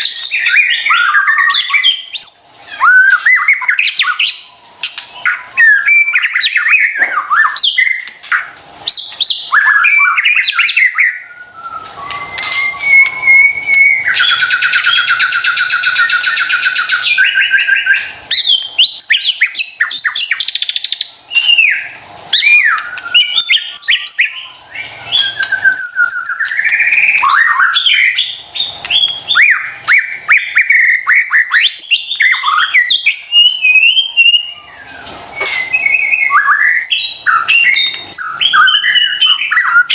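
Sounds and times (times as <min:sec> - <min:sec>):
bird singing whistled phrases: 0:00.0 - 0:04.6, 0:05.2 - 0:39.9.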